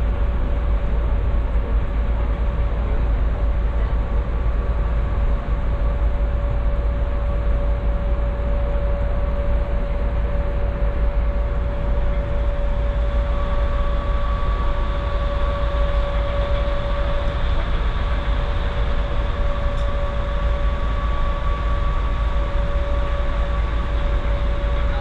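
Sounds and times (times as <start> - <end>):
droning hum: 0.0 - 25.0.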